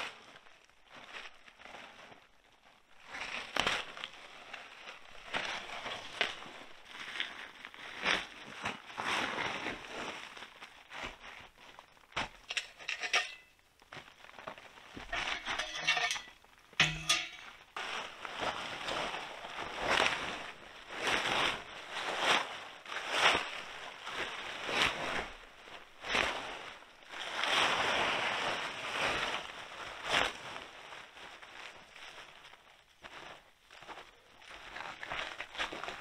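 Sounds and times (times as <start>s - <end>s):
plastic tarp rustling: 0.0s - 16.8s, 17.4s - 36.0s.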